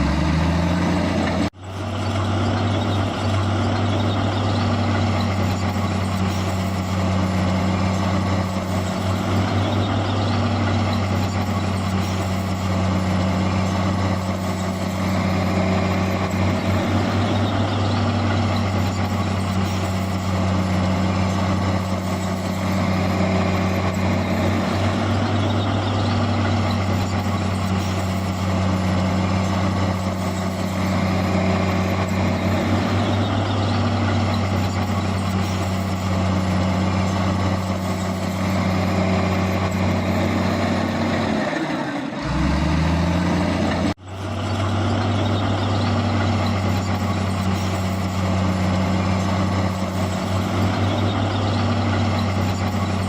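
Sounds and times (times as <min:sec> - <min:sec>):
heavy diesel machinery engine drone: 0:00.0 - 0:53.0.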